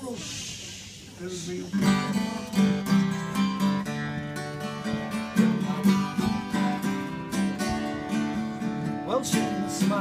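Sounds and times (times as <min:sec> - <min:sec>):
acoustic guitar strumming: 0:01.6 - 0:10.0.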